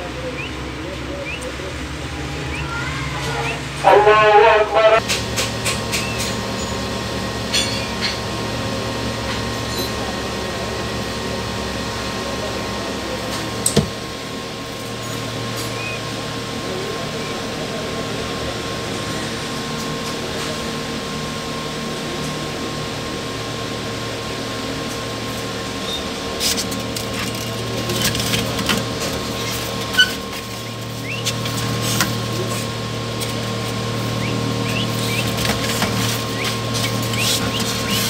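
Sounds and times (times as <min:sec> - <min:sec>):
incubator fan hum: 0:00.0 - 0:38.0.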